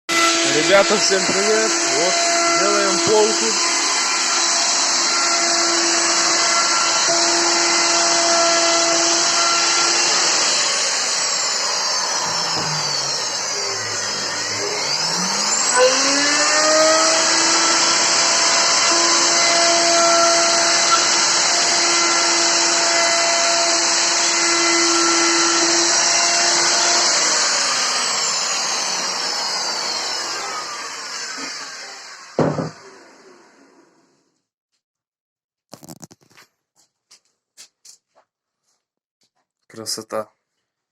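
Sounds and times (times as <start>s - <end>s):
electric router whining: 0.1s - 34.1s.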